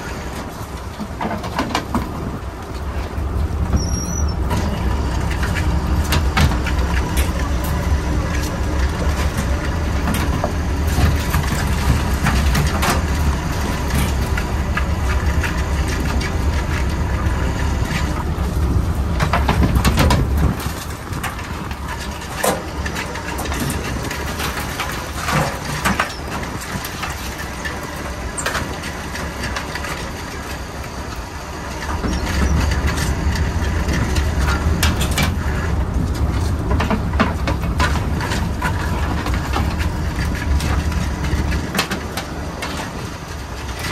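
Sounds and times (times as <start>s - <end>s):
boat engine rumbling: 0.0s - 43.9s.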